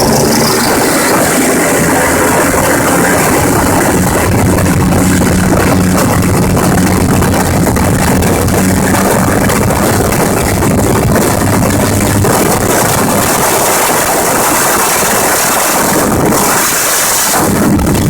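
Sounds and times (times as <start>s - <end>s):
gyrocopter engine running: 0.0s - 18.0s
wind rushing over microphone: 0.0s - 18.0s.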